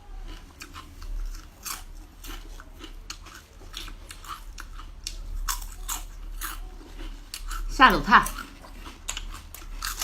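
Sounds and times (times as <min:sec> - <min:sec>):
crunching and chewing cracklings: 0:00.0 - 0:10.0.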